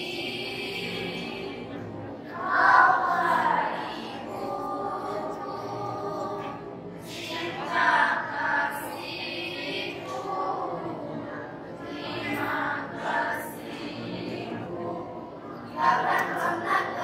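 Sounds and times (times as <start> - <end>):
female choir singing devotional song: 0.0 - 17.0.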